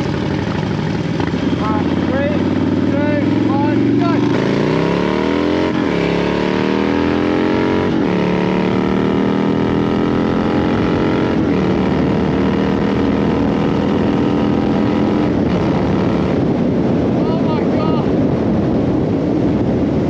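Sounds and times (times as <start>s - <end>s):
motorcycle accelerating: 0.0s - 20.0s.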